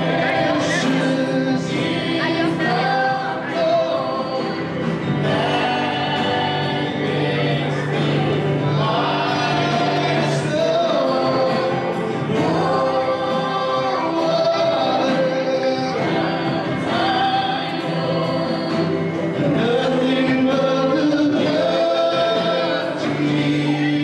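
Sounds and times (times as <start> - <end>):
gospel choir singing: 0.0 - 24.0.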